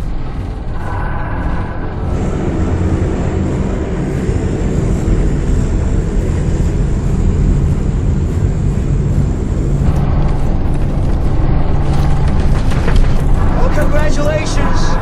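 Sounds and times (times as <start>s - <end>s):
airplane engines droning: 0.0s - 15.0s.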